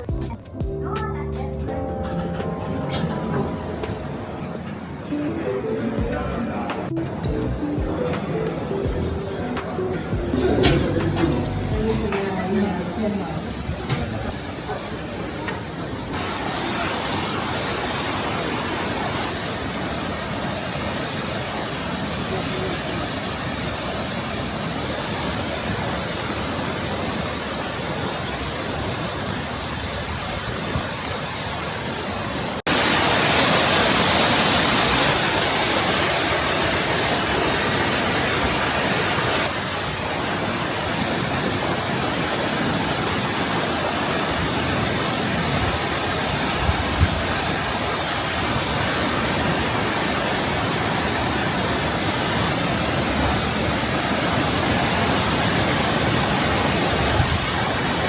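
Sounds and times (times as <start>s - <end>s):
waterfall rushing: 2.2s - 58.0s.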